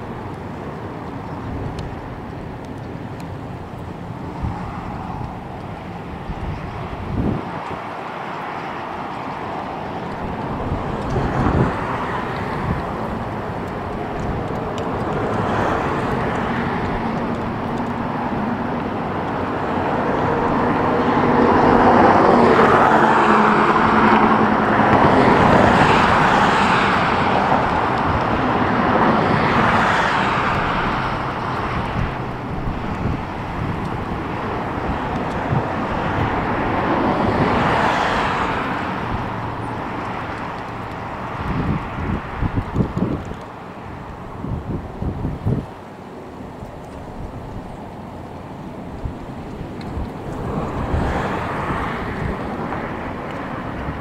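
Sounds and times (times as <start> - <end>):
jet engines passing: 0.0 - 54.0.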